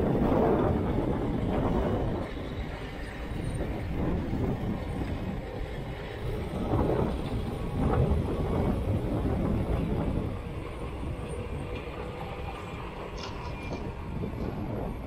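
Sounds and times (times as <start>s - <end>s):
clatter of steel tracks: 0.0s - 15.0s
diesel engine rumble: 0.0s - 15.0s
excavator engines running: 0.0s - 15.0s.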